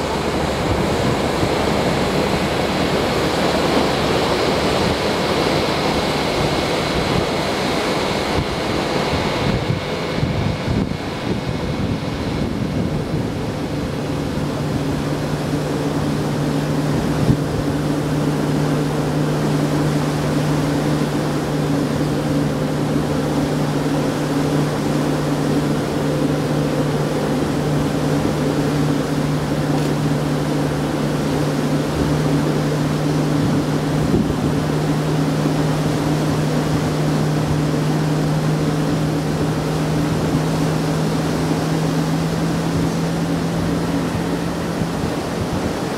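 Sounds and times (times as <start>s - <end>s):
ferry engines droning: 0.0s - 45.9s
water and wind rushing: 0.0s - 45.9s.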